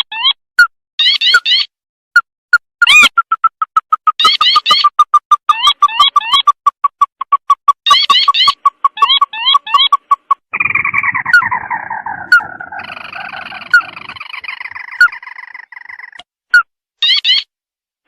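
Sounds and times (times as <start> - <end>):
recorded bird calls: 1.0 - 1.7, 2.8 - 17.5.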